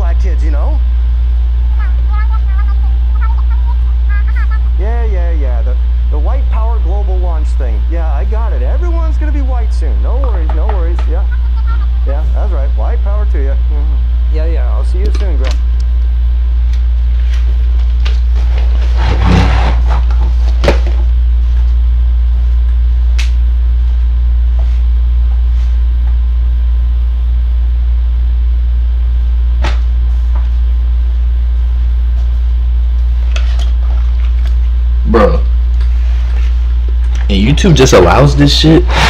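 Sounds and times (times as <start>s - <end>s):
low electrical hum: 0.0s - 39.0s.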